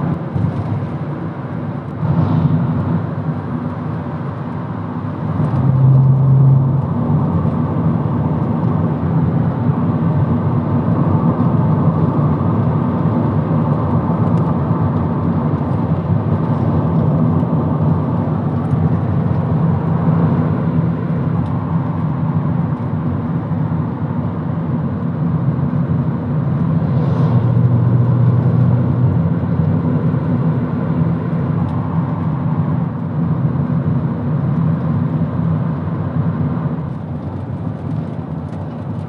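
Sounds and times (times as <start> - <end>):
car engine drone: 0.0 - 39.0
tyre and road noise: 0.0 - 39.0.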